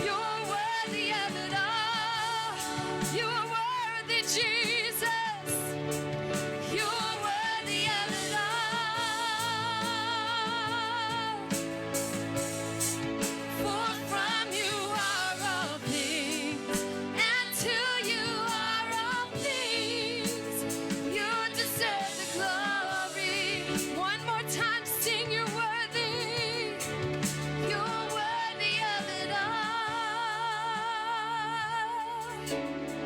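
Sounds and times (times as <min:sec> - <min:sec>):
person singing with vibrato: 0:00.0 - 0:11.7, 0:13.6 - 0:32.6
keyboard chords and bass: 0:00.0 - 0:30.0.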